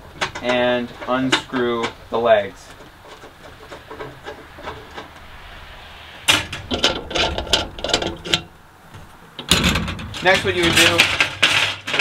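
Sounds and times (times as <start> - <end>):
threads clicking and scraping: 0.0 - 12.0.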